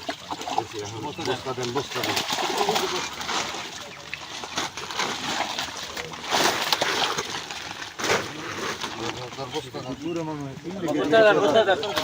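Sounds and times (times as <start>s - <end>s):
pond water splashing and sloshing: 0.0s - 12.0s.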